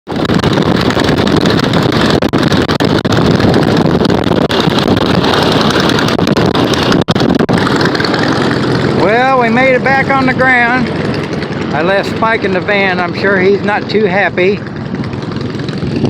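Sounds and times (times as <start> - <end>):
wind buffeting microphone: 0.1 - 16.0.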